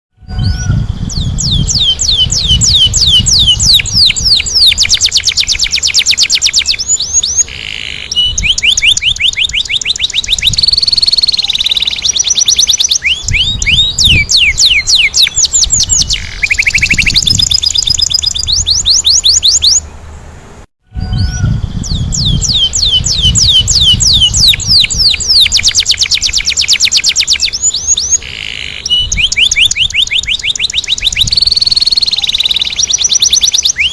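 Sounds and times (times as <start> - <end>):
canary singing trills: 0.2 - 20.0, 21.0 - 33.9.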